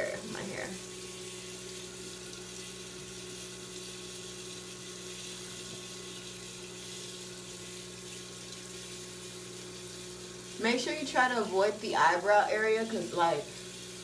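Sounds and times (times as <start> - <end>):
constant hiss: 0.0 - 14.0
steady hum: 0.0 - 14.0.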